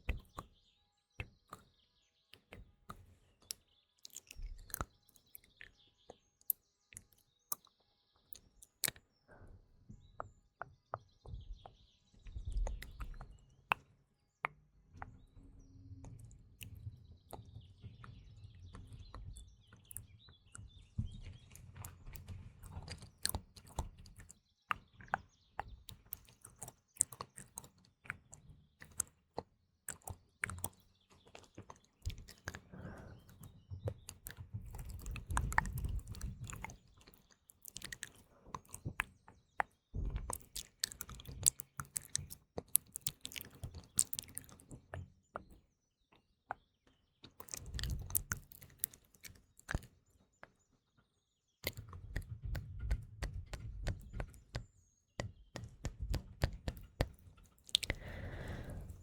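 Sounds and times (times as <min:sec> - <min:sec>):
wet lip and tongue clicks: 0:00.0 - 0:00.6, 0:02.4 - 0:09.0, 0:12.5 - 0:15.2, 0:16.1 - 0:20.6, 0:21.8 - 0:45.6, 0:47.2 - 0:50.0, 0:51.6 - 0:59.0
faint birdsong: 0:00.0 - 0:59.0.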